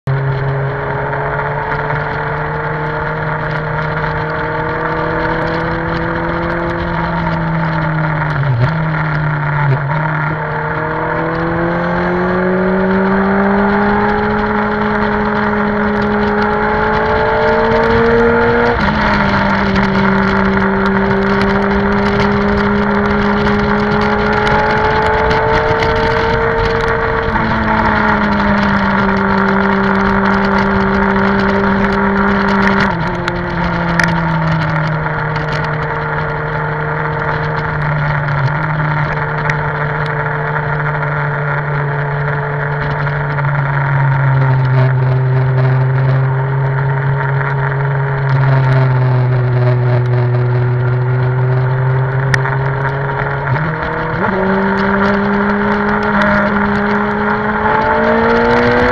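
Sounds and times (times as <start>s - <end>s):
motorcycle engine under load: 0.0s - 58.9s
wind on microphone: 0.1s - 58.9s.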